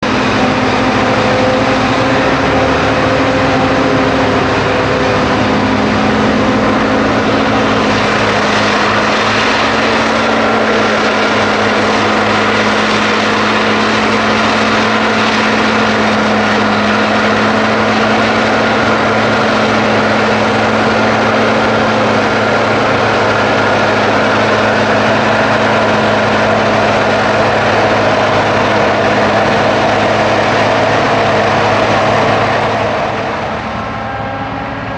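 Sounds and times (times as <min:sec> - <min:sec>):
farm machinery droning: 0:00.0 - 0:34.9.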